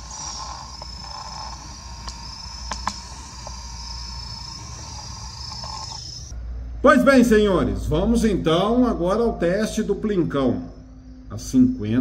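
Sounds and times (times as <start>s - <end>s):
insects chirring: 0.0s - 6.5s, 7.2s - 12.0s.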